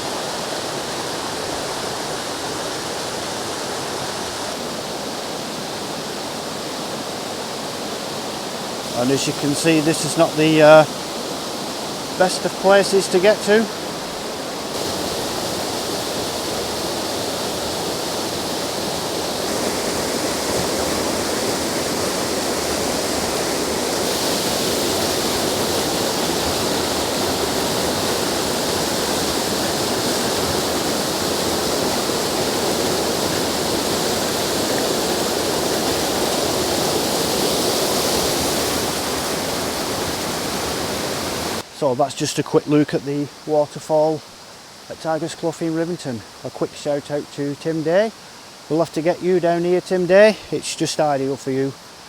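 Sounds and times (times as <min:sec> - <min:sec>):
waterfall rushing over rocks: 0:00.0 - 0:52.0.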